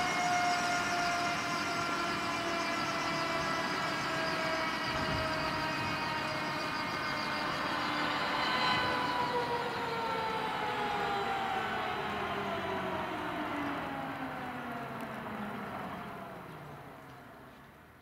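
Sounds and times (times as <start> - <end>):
helicopter turbine whine: 0.0 - 17.5.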